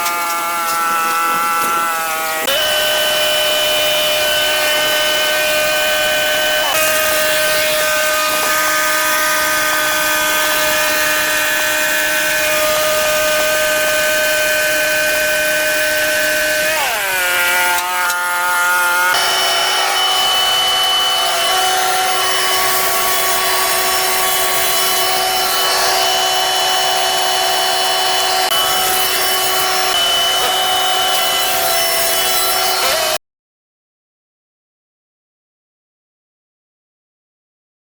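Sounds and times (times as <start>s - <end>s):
power saw cutting wood: 0.0s - 33.2s.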